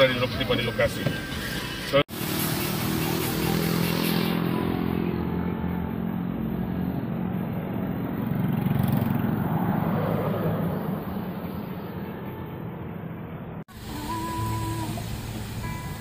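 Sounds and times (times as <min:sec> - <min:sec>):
traffic on wet road: 0:00.0 - 0:12.4, 0:13.7 - 0:16.0.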